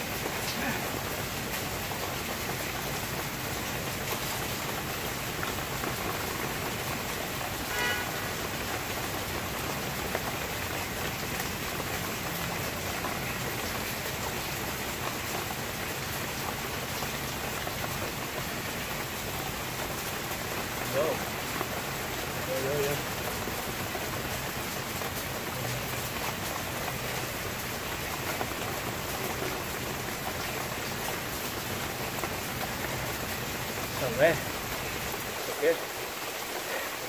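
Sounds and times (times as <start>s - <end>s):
steady rain hiss: 0.0s - 37.0s.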